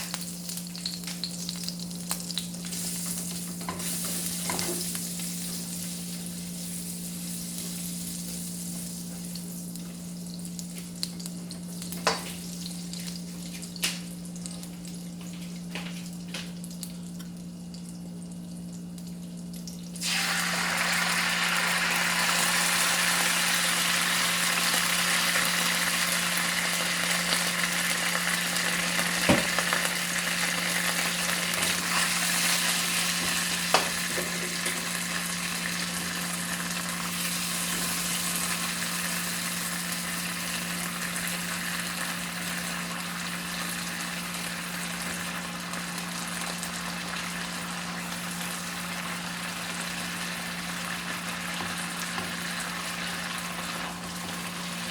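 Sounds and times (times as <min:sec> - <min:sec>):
food sizzling in oil: 0:00.0 - 0:11.0, 0:20.0 - 0:54.9.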